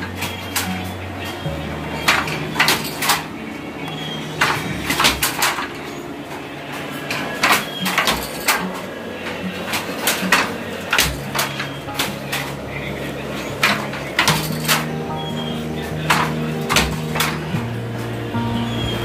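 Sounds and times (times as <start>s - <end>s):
wooden handloom clacking: 0.0s - 3.4s, 4.4s - 15.2s, 15.8s - 17.7s
low steady hum: 0.0s - 19.0s.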